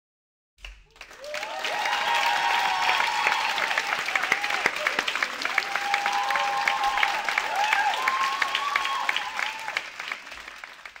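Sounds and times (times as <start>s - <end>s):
audience clapping: 0.6s - 11.0s
cheering calls: 1.0s - 10.5s.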